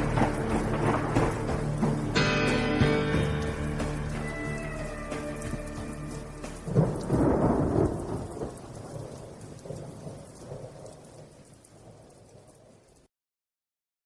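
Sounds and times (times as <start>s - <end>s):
low thunder rumble: 0.0s - 4.7s, 5.4s - 13.1s
steady rain: 0.0s - 13.1s.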